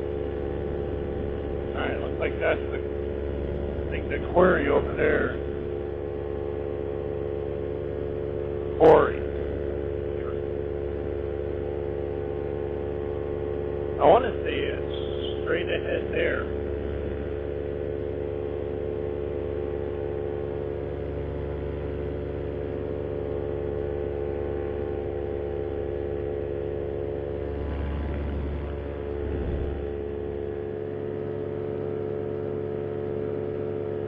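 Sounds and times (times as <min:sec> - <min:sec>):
paramotor engine droning: 0:00.0 - 0:34.0.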